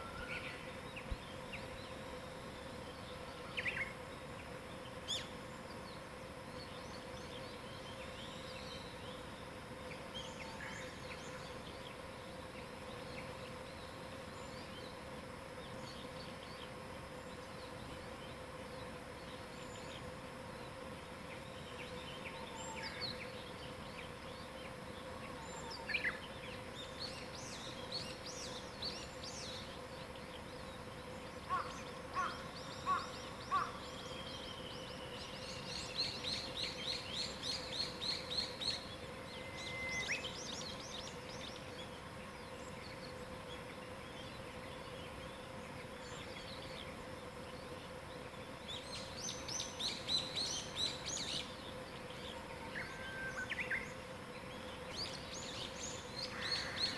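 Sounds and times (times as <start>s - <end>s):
faint steady hum: 0.0s - 56.9s
wild birds singing: 0.0s - 56.9s.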